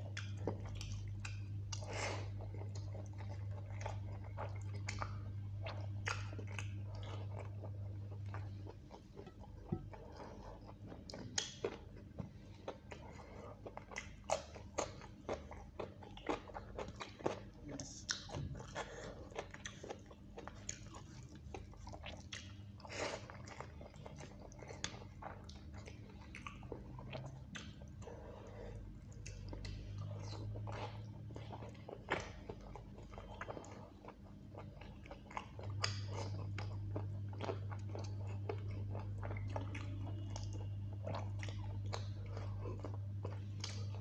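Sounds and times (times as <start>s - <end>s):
wet chewing: 0.0s - 44.0s.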